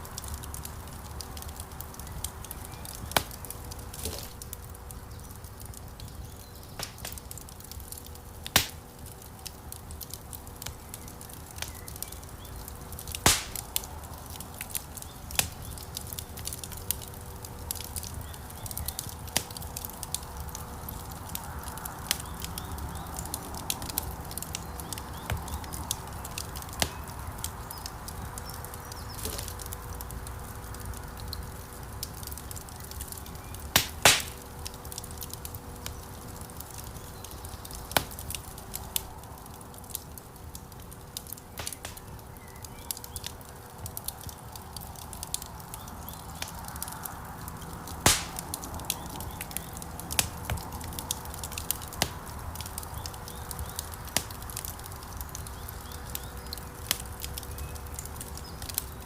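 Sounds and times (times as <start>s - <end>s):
fire crackles and pops: 0.0s - 59.0s
flames rumbling and hissing: 0.0s - 59.0s.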